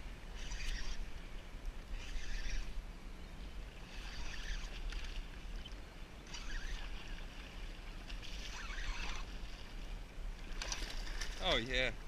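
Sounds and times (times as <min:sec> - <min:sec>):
low rumble of wind and water: 0:00.0 - 0:12.0.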